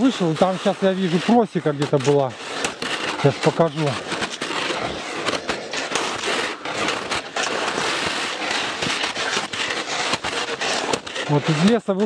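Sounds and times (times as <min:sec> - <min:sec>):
footsteps crunching on crusted snow: 0:00.0 - 0:12.0.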